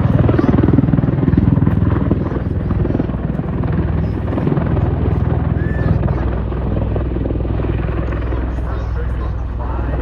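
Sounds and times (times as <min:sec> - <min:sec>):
aircraft droning overhead: 0:00.0 - 0:10.0.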